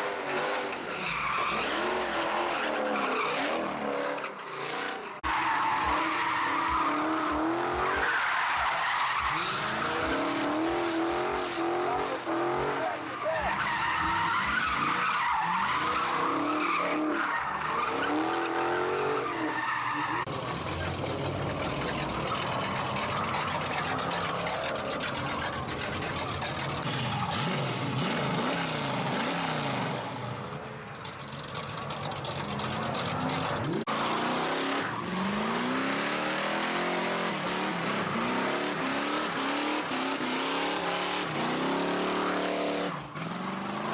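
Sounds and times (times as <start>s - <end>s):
car tyres squealing: 0.0s - 43.9s.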